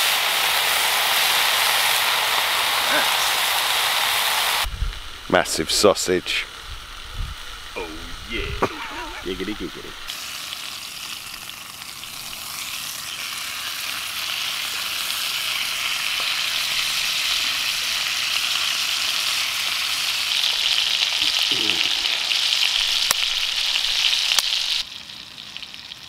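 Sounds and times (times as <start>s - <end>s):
sausage sizzling in frying pan: 0.0s - 26.0s.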